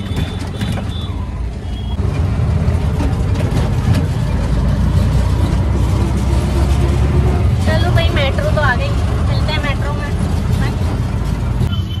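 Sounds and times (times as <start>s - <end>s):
auto-rickshaw engine running: 0.0s - 12.0s
road rumble: 0.0s - 12.0s.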